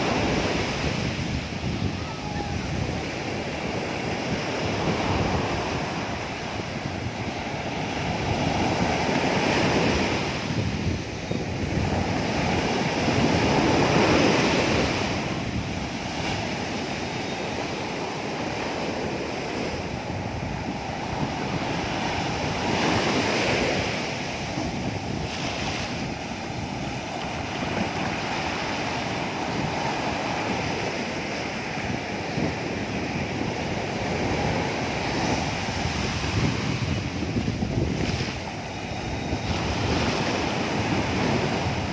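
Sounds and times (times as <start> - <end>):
ocean surf breaking: 0.0 - 41.9
wind buffeting microphone: 0.0 - 41.9.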